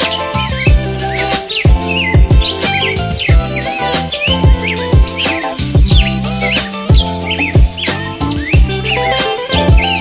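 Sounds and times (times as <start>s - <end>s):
bird chirps: 0.0s - 9.9s
background music with steady beat: 0.0s - 10.0s.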